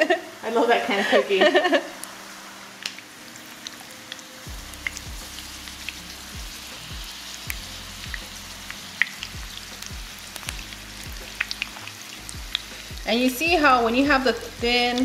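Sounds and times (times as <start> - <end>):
oil sizzling with crackling pops: 1.6 - 15.0.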